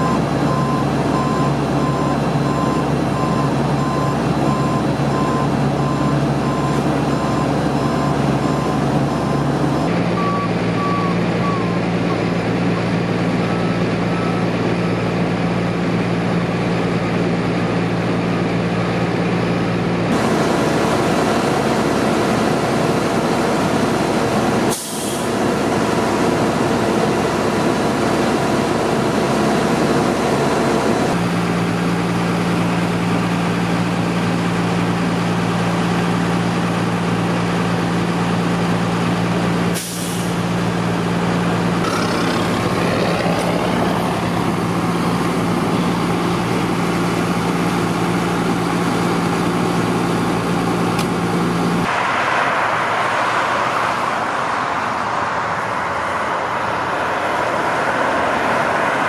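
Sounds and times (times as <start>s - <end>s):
truck engines idling: 0.0s - 59.0s.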